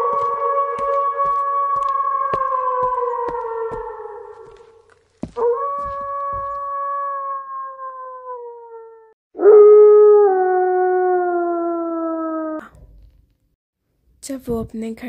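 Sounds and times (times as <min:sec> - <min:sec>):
dog howling: 0:00.0 - 0:12.6.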